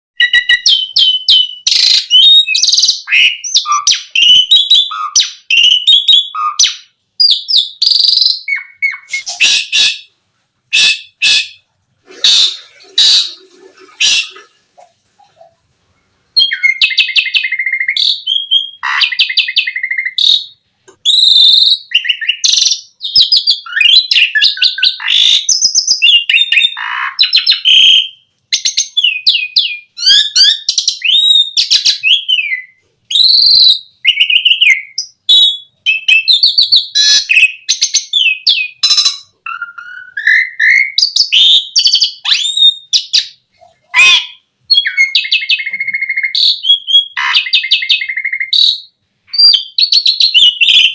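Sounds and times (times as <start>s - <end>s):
starling singing whistles: 0.2s - 10.1s, 16.4s - 43.4s, 44.0s - 50.9s.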